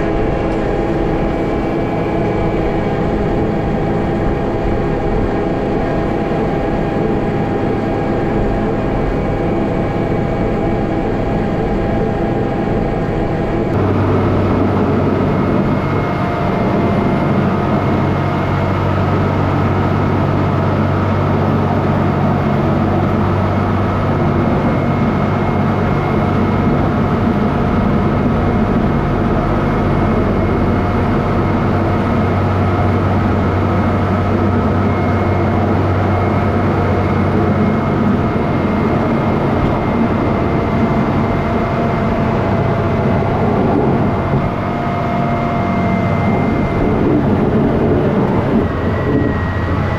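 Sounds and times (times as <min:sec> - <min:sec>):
heavy vehicle engine rumbling: 0:00.0 - 0:49.9
steady engine whine: 0:00.0 - 0:49.9.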